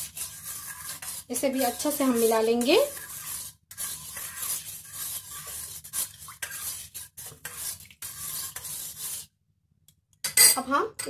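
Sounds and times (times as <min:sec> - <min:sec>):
metal spoon scraping a pan: 0:00.0 - 0:09.3.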